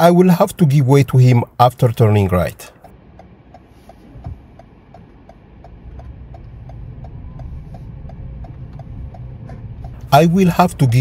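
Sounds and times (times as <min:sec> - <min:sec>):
car engine and road noise: 0:00.0 - 0:11.0
turn signal ticking: 0:00.0 - 0:11.0.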